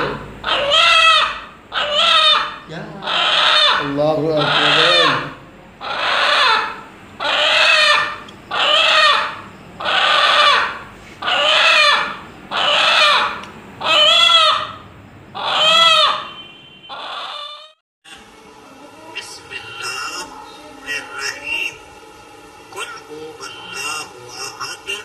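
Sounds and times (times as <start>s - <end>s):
rooster calling: 0.0s - 18.5s, 19.1s - 22.0s, 22.7s - 25.0s.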